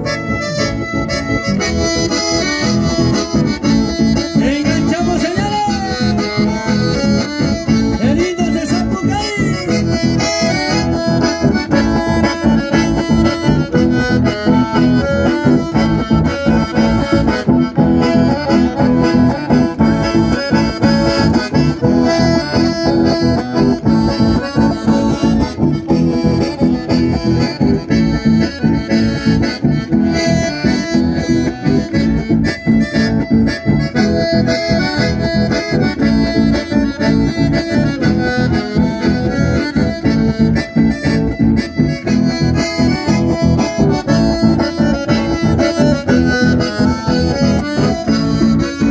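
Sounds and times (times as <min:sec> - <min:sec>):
button accordions playing: 0:00.0 - 0:48.9
guitar accompaniment: 0:00.0 - 0:48.9.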